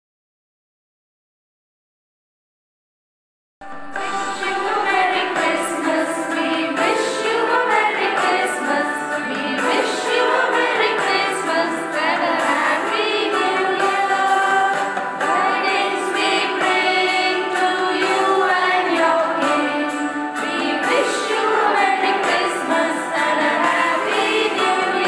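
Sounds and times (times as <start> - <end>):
instrumental backing: 3.6 - 25.0
women singing a carol: 3.9 - 25.0.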